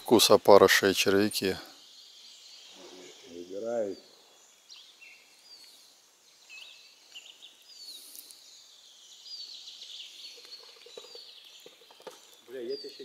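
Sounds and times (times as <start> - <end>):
faint background hiss: 0.0 - 13.0
songbirds chirping and whistling: 0.0 - 13.0.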